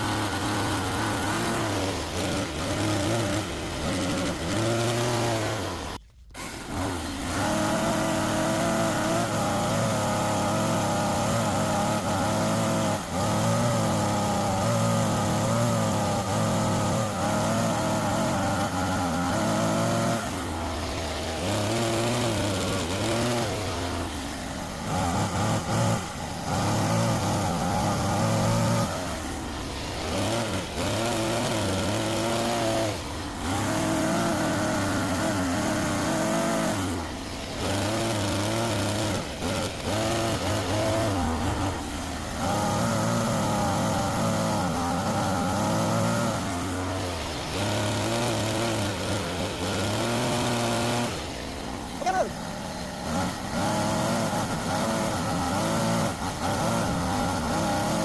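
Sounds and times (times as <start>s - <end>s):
toy excavator motors whining: 0.0s - 58.0s.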